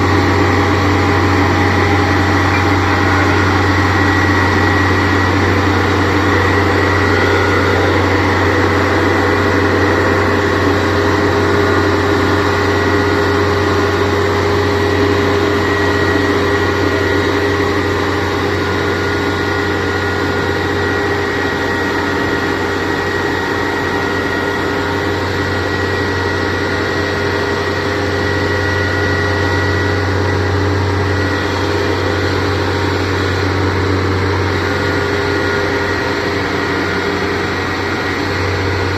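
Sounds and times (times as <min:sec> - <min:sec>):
diesel engine running: 0:00.0 - 0:38.9
steady high whine: 0:00.0 - 0:38.9.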